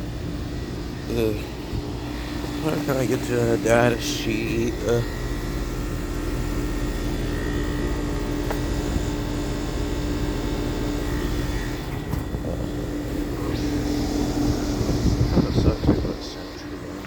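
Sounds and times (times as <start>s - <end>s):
heat pump humming: 0.0s - 17.0s.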